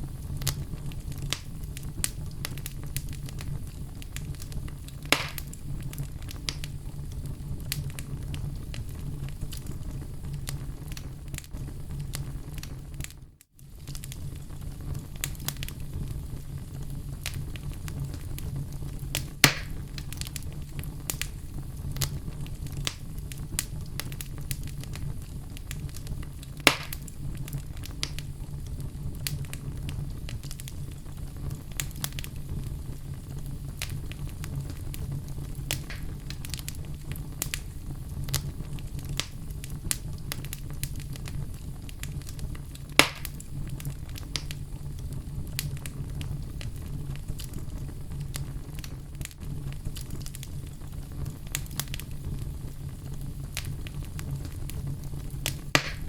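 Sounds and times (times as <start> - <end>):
fire rumbling and crackling: 0.0 - 56.0
wood popping in fire: 0.0 - 56.0.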